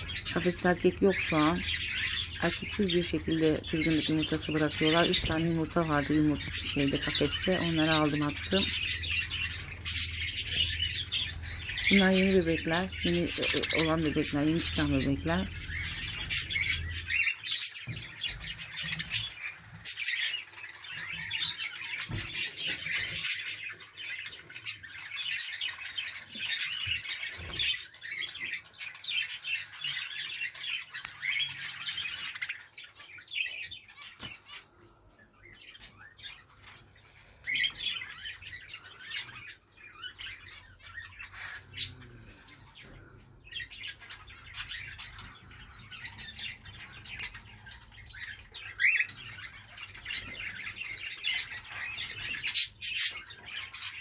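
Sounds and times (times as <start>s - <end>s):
budgerigars chattering and warbling: 0.0s - 54.0s
cockatiels chirping and squawking: 0.0s - 54.0s.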